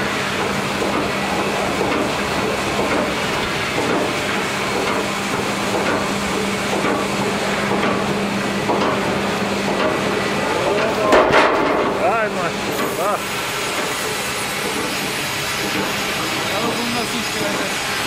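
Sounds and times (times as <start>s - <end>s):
constant machine hum: 0.0s - 18.0s
log conveyor mechanical clatter: 0.0s - 18.0s.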